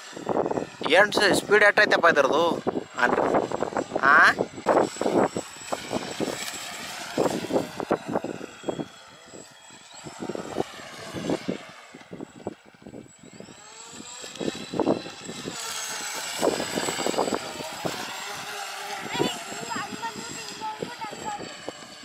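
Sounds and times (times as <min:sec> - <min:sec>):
speedboat motor whining: 0:00.0 - 0:22.0
wind on microphone: 0:00.0 - 0:22.0.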